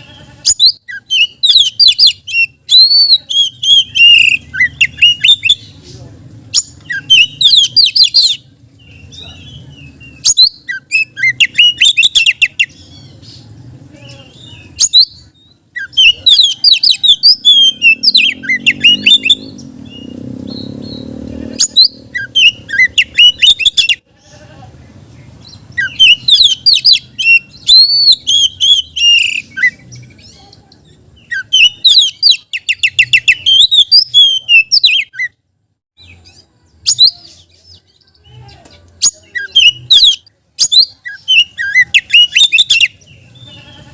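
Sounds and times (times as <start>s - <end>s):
bird singing whistles and trills: 0.5s - 5.7s, 6.6s - 13.4s, 14.4s - 24.0s, 25.4s - 30.4s, 31.2s - 35.4s, 36.0s - 37.9s, 39.0s - 43.6s.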